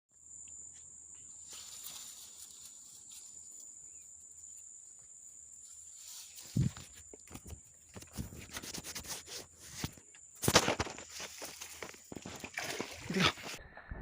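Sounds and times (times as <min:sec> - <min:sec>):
crickets chirring: 0:00.1 - 0:13.6.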